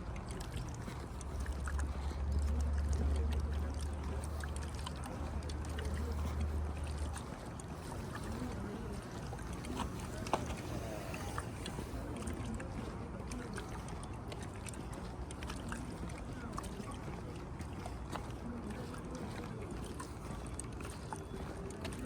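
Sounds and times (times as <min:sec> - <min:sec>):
faint distant voices: 0:00.0 - 0:22.0.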